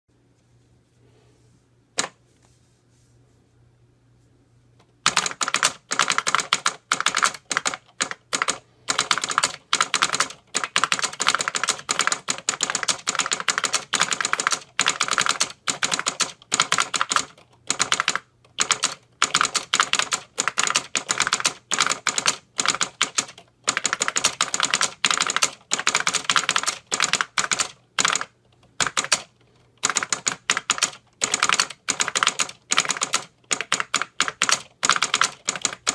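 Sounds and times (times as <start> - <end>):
fast keyboard typing: 5.0 - 35.9.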